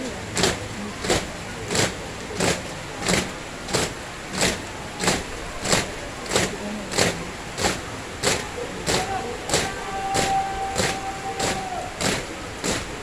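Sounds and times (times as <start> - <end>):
rain hiss: 0.0 - 13.0
windshield wipers swishing: 0.0 - 13.0.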